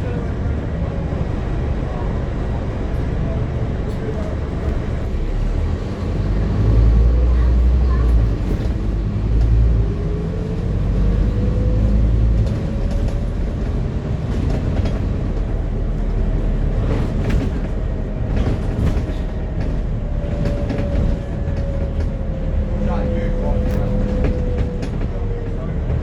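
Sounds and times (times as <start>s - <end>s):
bus engine rumble and whine: 0.0s - 26.0s.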